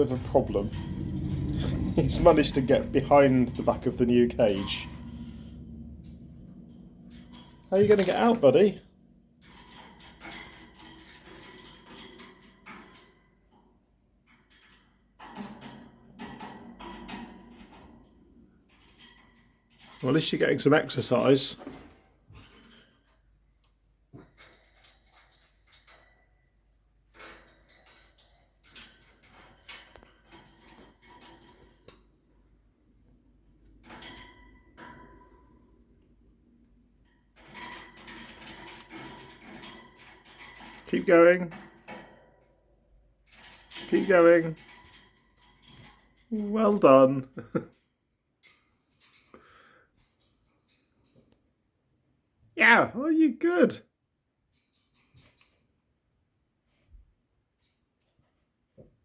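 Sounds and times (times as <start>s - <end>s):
cage bars clicking and rattling: 0.0s - 51.5s, 54.4s - 56.0s, 57.5s - 58.8s.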